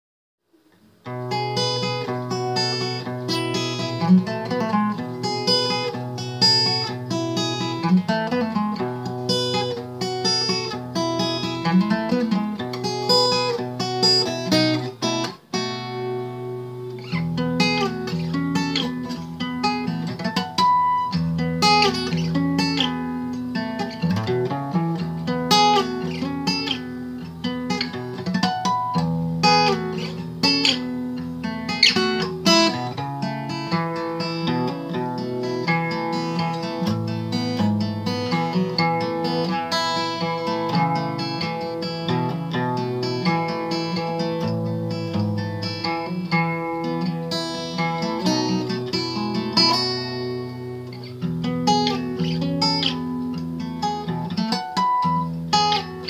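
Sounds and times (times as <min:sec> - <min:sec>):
acoustic guitar picking: 0:00.5 - 0:56.0.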